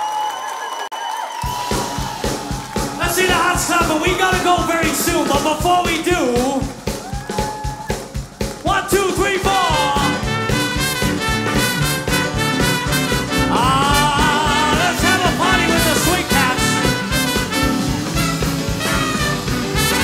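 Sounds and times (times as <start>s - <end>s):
crowd noise: 0.0s - 20.0s
swing band playing: 1.4s - 20.0s.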